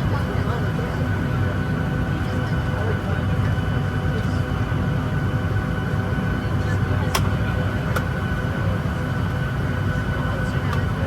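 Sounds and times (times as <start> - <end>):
aircraft cabin hum: 0.0 - 11.0.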